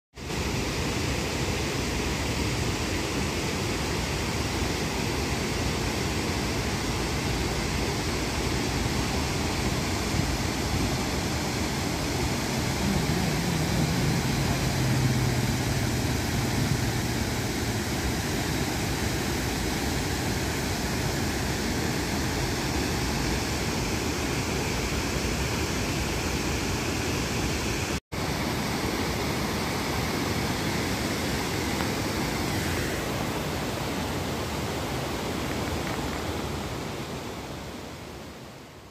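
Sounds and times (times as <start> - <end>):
water rushing over a weir: 0.2 - 38.8.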